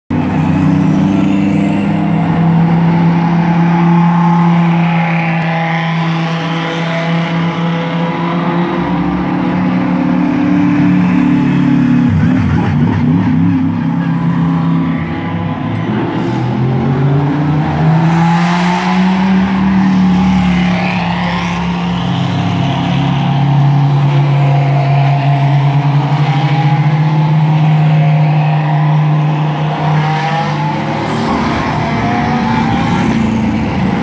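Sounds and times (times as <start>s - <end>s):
race car engines running: 0.1s - 34.0s.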